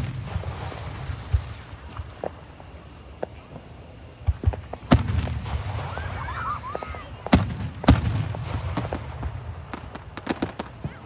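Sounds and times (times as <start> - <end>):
fireworks bursting with bangs: 0.0 - 11.0
small fireworks cracks: 0.0 - 11.0.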